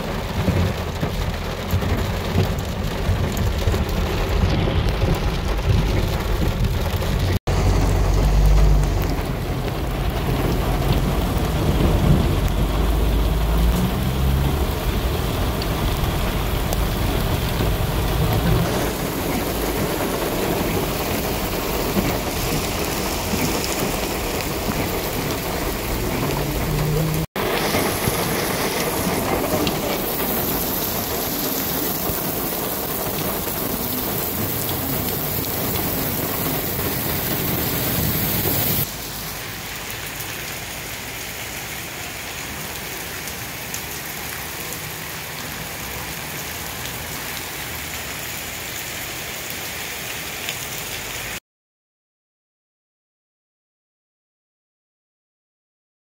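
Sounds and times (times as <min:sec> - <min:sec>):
heavy rain pouring: 0:00.0 - 0:51.4.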